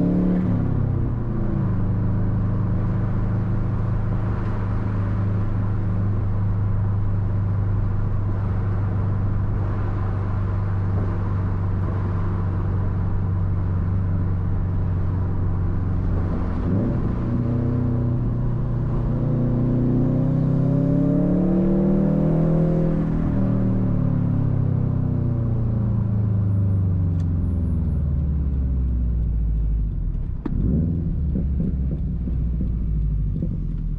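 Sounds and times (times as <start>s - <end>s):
car engine revving: 0.0s - 24.6s, 25.5s - 33.9s.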